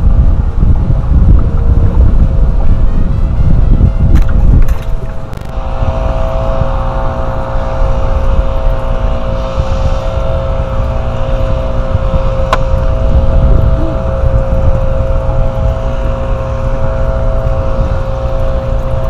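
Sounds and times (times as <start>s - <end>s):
steady hum: 0.0s - 19.0s
wind buffeting microphone: 0.0s - 19.0s.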